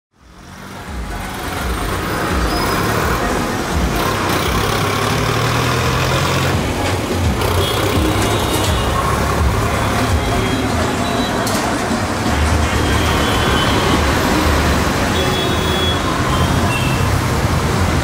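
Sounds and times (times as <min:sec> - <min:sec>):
passing cars and scooters rumbling: 0:00.2 - 0:18.0.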